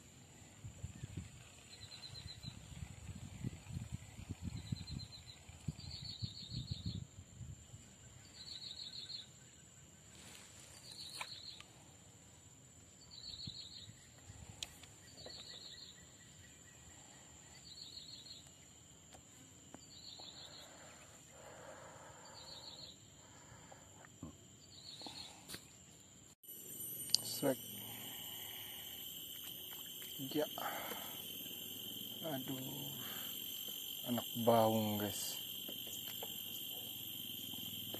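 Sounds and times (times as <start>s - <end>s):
insect pulsed chirp: 0.0s - 37.9s
insects whining: 0.0s - 37.9s.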